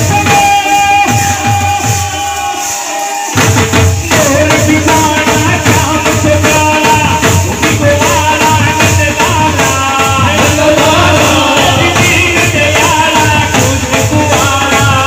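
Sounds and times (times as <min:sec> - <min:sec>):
drum beat: 0:00.0 - 0:15.0
jingling hand cymbals: 0:00.0 - 0:15.0.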